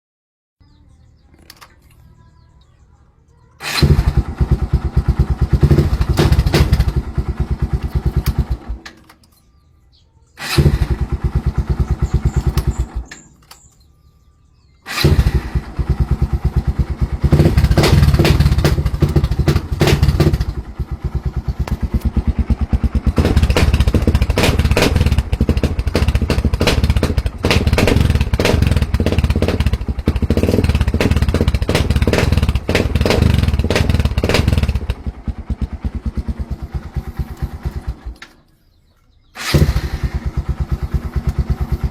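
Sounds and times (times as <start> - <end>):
motorcycle engine starting and stalling: 0.6 - 2.9, 3.5 - 41.9.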